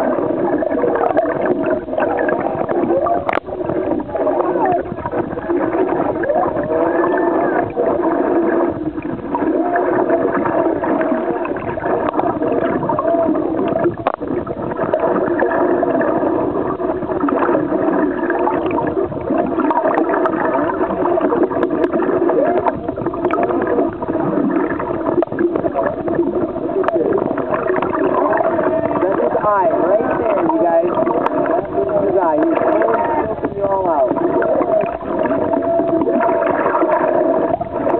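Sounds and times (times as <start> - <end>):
whale song underwater: 0.0 - 37.9.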